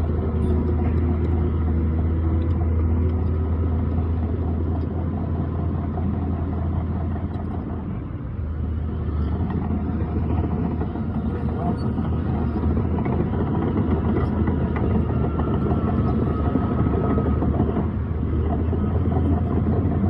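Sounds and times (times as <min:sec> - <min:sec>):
heavy diesel machinery rumbling: 0:00.0 - 0:20.0.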